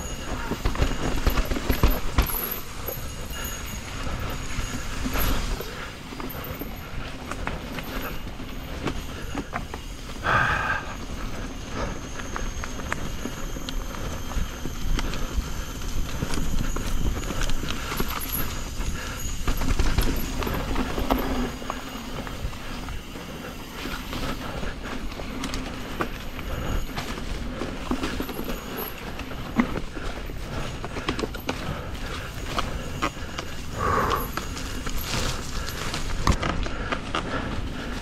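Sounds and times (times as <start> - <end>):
bike rattling and clicking: 0.0 - 38.0
bike tyres rolling over rough ground: 0.0 - 38.0.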